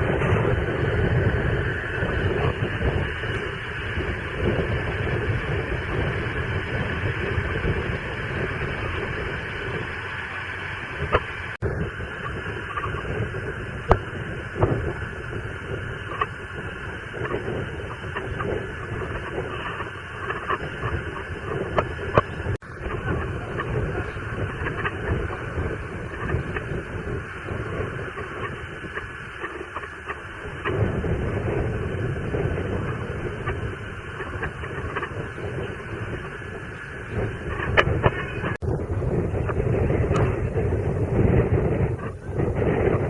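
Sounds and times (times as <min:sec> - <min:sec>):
forest fire crackling: 0:00.0 - 0:43.0.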